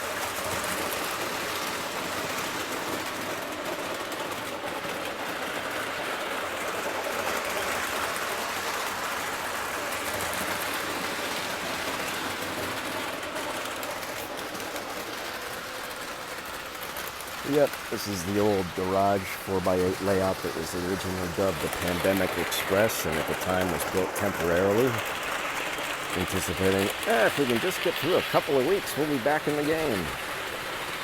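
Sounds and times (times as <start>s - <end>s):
model train running on track: 0.0s - 31.0s.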